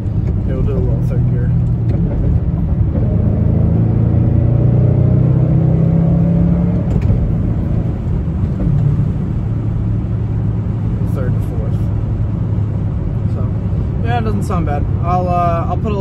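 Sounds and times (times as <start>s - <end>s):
car engine accelerating: 0.0s - 15.6s.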